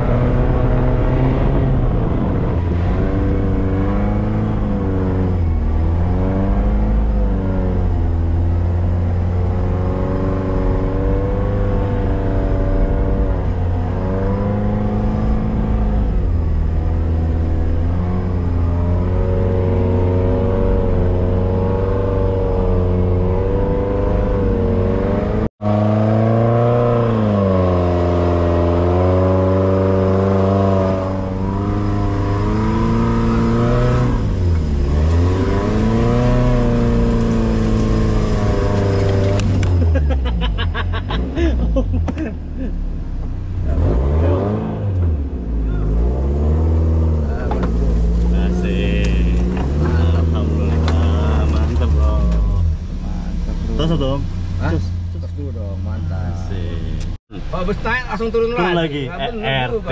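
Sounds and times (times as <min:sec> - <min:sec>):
off-road car engine revving: 0:00.0 - 0:59.9.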